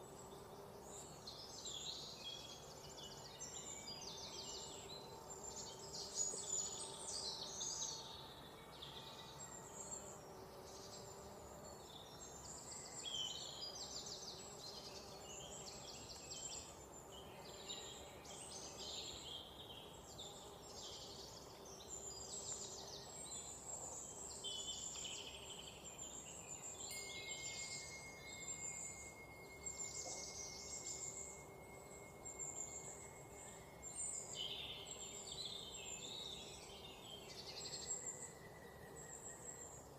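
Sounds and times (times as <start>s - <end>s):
faint steady background hiss: 0.0s - 39.9s
songbirds singing: 0.0s - 39.9s
steady high insect-like tone: 0.0s - 39.9s.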